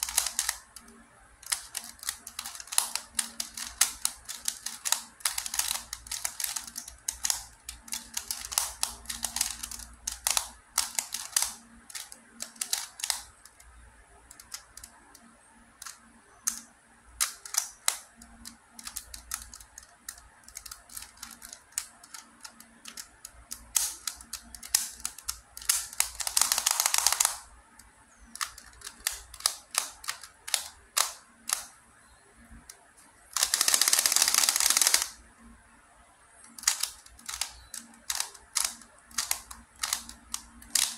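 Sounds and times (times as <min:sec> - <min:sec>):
plastic puzzle clicking: 0:00.0 - 0:31.8, 0:32.5 - 0:35.2, 0:36.4 - 0:40.9.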